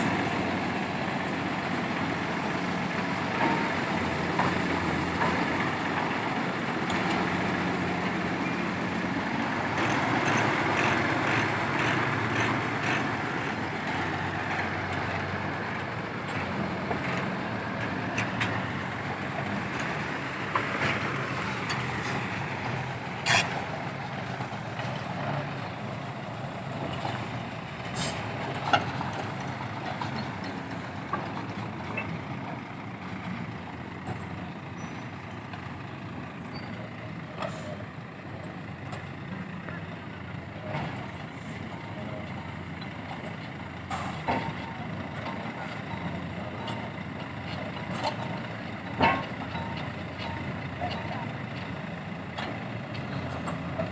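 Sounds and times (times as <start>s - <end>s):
diesel machinery running: 0.0s - 53.9s.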